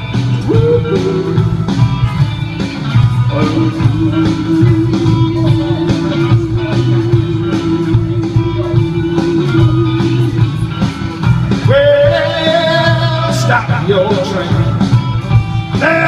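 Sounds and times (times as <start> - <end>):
guitar playing: 0.0 - 16.0
steady drum beat: 0.0 - 16.0.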